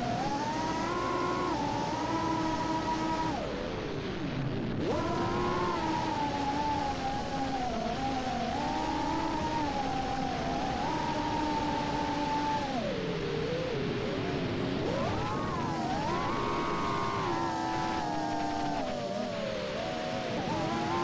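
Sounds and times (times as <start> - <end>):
drone motors whining: 0.0 - 4.0, 4.7 - 21.0.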